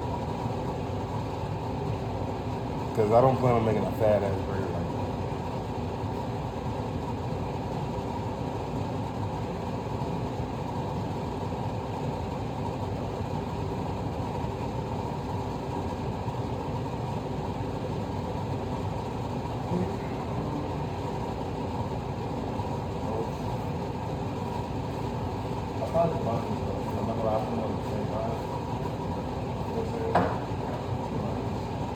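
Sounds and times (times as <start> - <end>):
kitchen exhaust fan humming: 0.0 - 31.9.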